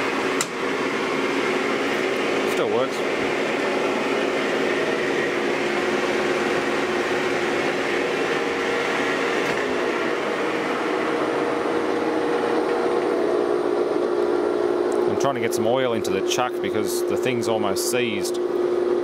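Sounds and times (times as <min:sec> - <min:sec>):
metal lathe running: 0:00.0 - 0:16.3
high machine whine: 0:00.0 - 0:19.0.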